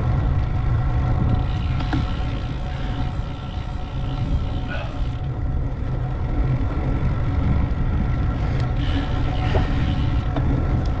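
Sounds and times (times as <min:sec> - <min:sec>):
road noise: 0:00.0 - 0:11.0
wind buffeting: 0:00.0 - 0:11.0.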